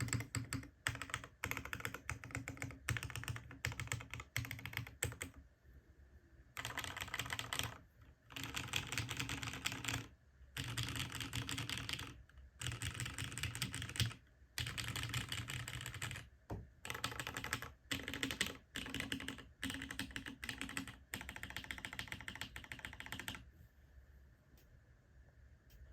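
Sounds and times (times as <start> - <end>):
typing on mechanical keyboard: 0.0 - 5.4, 6.6 - 23.4.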